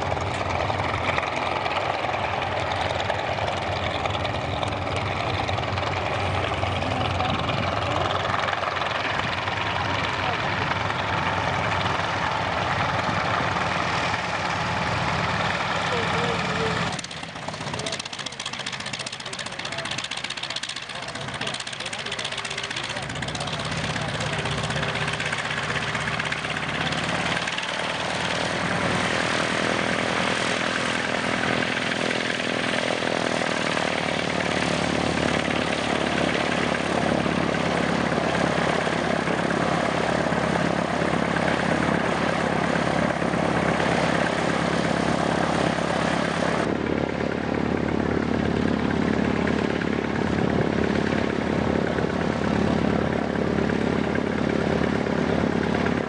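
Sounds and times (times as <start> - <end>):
propeller aircraft engine drone: 0.0 - 56.0.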